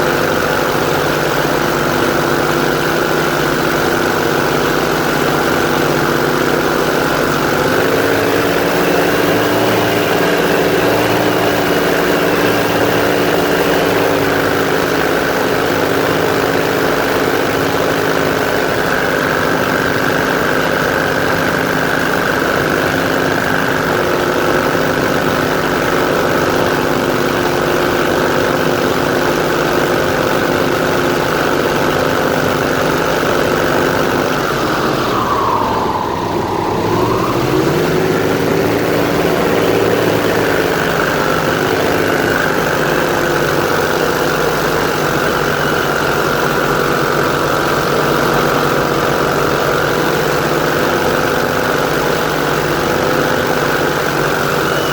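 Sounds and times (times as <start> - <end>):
airboat engine and propeller: 0.0 - 54.9.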